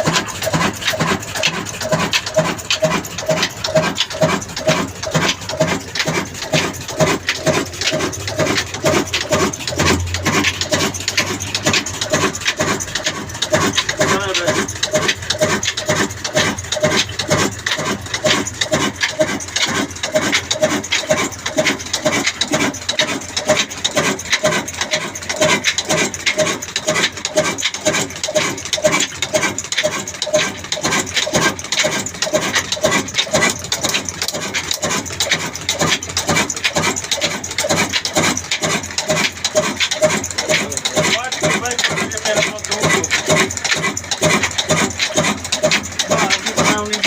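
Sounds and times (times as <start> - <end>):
flour mill rasping: 0.0 - 47.0
single-cylinder diesel engine running: 0.0 - 47.0.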